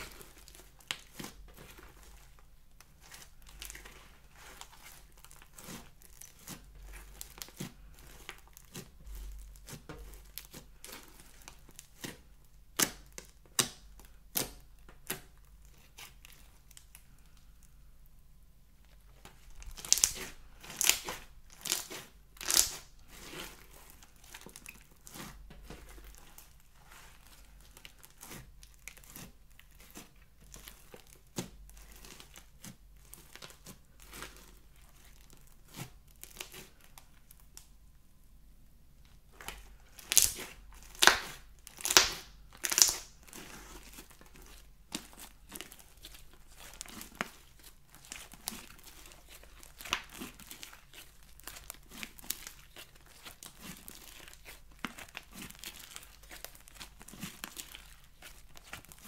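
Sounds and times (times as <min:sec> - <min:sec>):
slime crackling and popping: 0:00.0 - 0:17.0, 0:19.2 - 0:37.8, 0:39.3 - 0:59.0.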